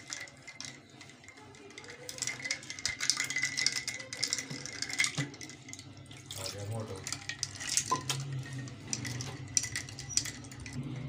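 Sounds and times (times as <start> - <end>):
ice clinking against glass: 0.0 - 10.8.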